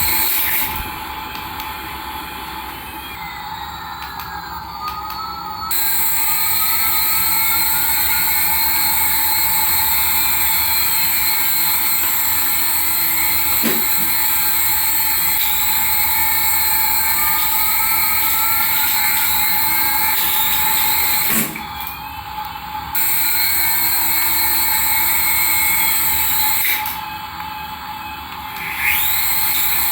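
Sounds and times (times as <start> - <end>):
toy aircraft high-pitched whine: 0.0 - 29.9.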